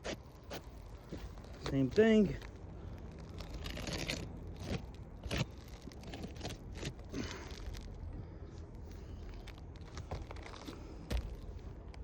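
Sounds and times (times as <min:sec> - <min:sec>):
low steady rumble: 0:00.0 - 0:12.0
scuffs and clicks on shingle roof: 0:00.0 - 0:12.0.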